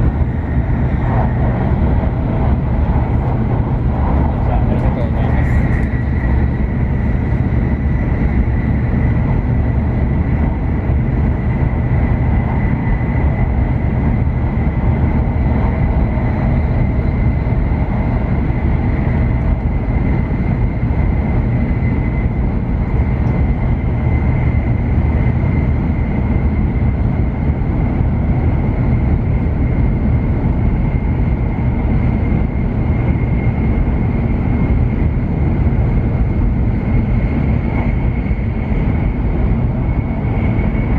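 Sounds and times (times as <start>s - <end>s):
train rumble and rush: 0.0s - 40.9s.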